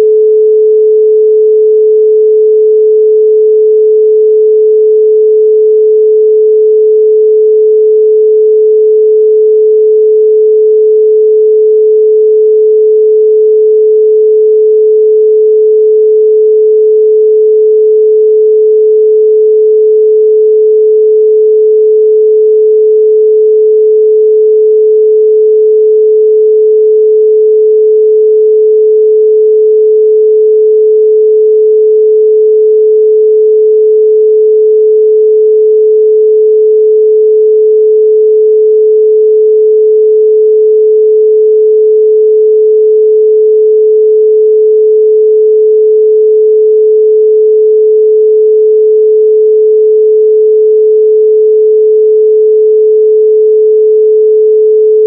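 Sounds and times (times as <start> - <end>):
pure sine tone: 0.0 - 55.0.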